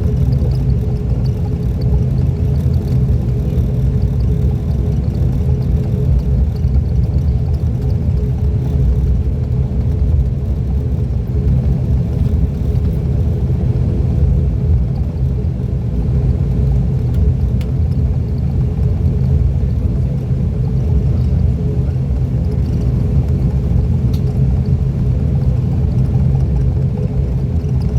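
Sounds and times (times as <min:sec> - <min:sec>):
turboprop cabin drone: 0:00.0 - 0:27.9.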